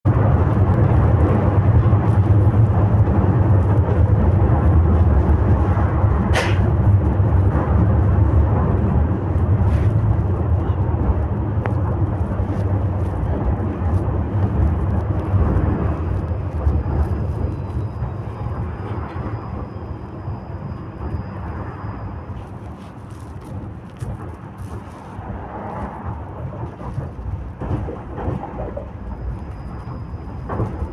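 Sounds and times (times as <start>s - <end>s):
vehicle rumble: 0.0s - 30.9s.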